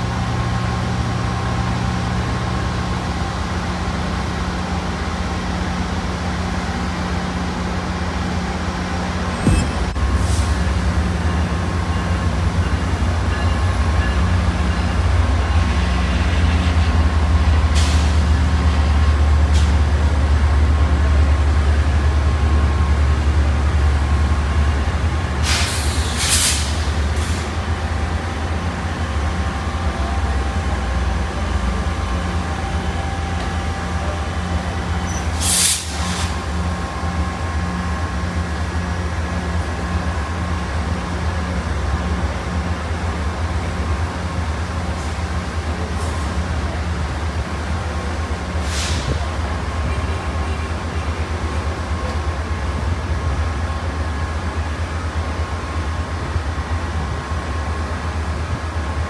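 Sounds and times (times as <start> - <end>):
diesel locomotive rumbling: 0.0 - 59.0.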